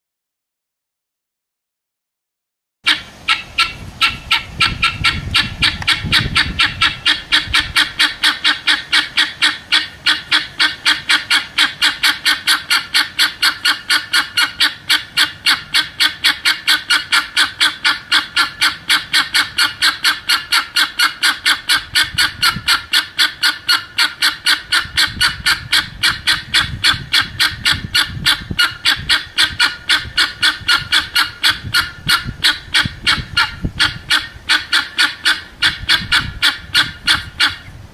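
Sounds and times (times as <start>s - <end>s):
guineafowl calling: 2.9s - 37.8s.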